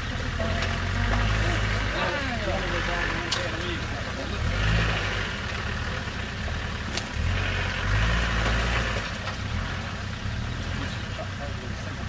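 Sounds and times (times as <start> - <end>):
engine working under load: 0.0 - 12.0
tyres churning through mud: 0.0 - 12.0.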